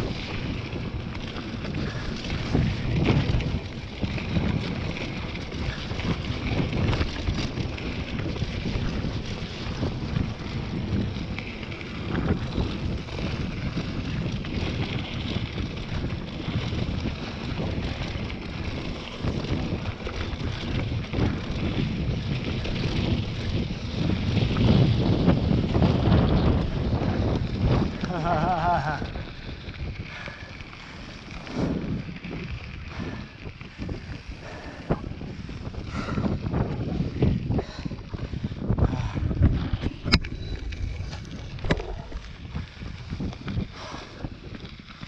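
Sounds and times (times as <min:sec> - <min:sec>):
bike knocks and rattles: 0:00.0 - 0:34.2, 0:34.9 - 0:45.0
tyre noise on dirt: 0:00.0 - 0:45.0
wind buffeting microphone: 0:00.0 - 0:45.0.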